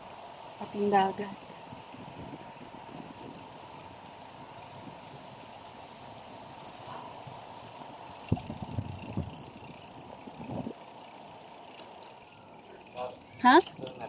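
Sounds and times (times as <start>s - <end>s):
bicycle tyres hissing on road: 0.0s - 13.2s.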